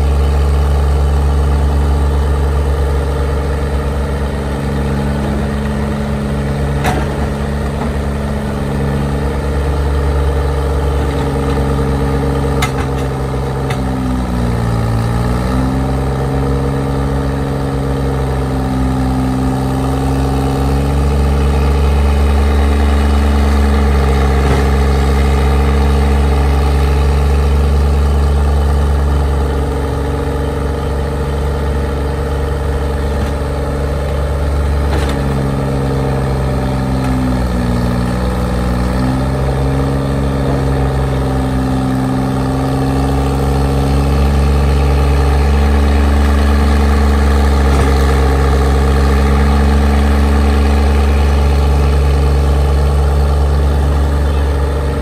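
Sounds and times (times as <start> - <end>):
power shovel engine running: 0.0 - 55.0.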